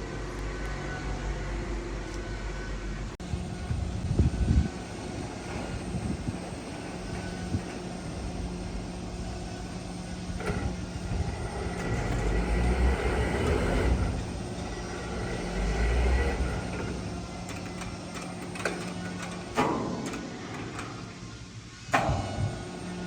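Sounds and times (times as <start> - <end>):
heavy machinery humming: 0.0 - 23.0.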